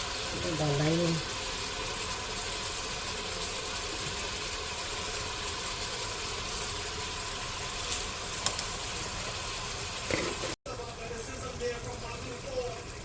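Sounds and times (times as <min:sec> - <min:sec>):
spices frying in a pot: 0:00.0 - 0:13.0.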